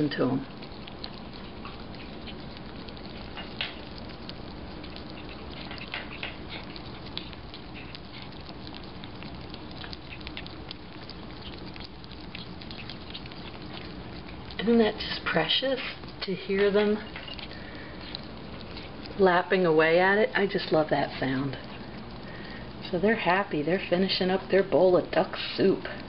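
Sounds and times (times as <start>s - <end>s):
ferrets lapping liquid: 0.0s - 26.0s.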